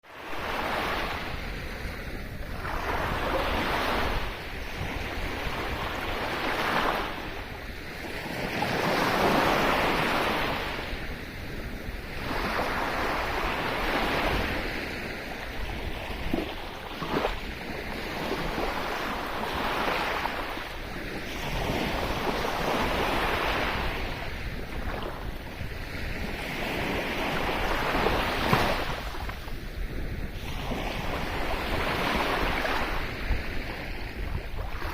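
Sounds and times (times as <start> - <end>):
sea waves breaking on shore: 0.1 - 34.9
wind blowing over microphone: 0.1 - 34.9.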